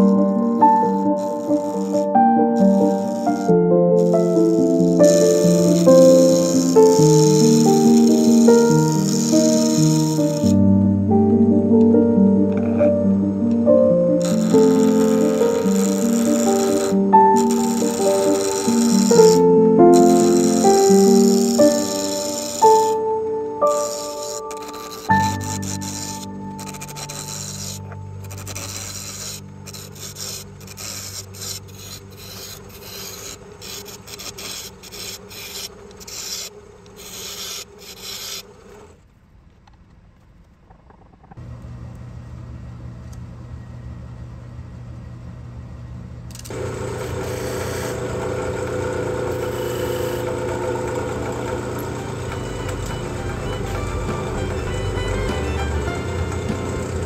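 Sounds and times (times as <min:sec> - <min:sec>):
chisel scraping wood on lathe: 0:00.0 - 0:10.6, 0:12.5 - 0:13.0, 0:14.2 - 0:39.0, 0:46.5 - 0:57.0
lathe running: 0:00.0 - 0:10.6, 0:13.7 - 0:38.9, 0:46.5 - 0:57.0.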